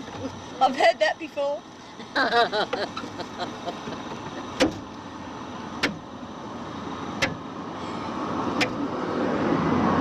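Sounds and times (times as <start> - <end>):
background traffic noise: 0.0 - 10.0.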